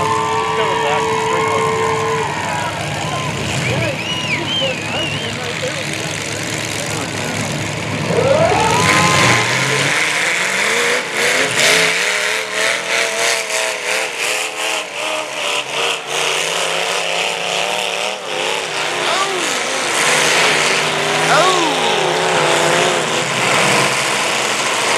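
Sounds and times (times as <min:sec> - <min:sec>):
car engines revving hard: 0:00.0 - 0:24.9.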